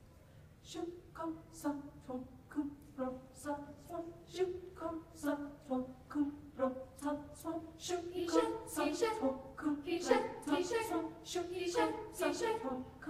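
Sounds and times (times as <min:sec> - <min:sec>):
choir singing a cappella: 0:00.7 - 0:13.0.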